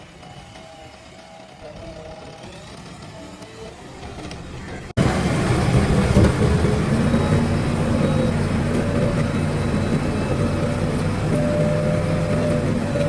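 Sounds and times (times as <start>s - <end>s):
heavy diesel engine running: 1.2s - 13.0s.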